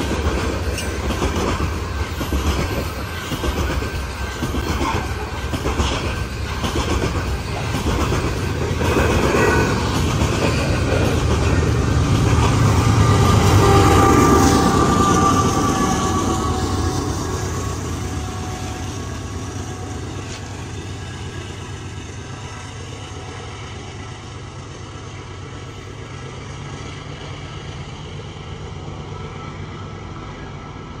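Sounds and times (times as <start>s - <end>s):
diesel locomotive engine: 0.0s - 31.0s
train wheels on rails: 0.0s - 31.0s.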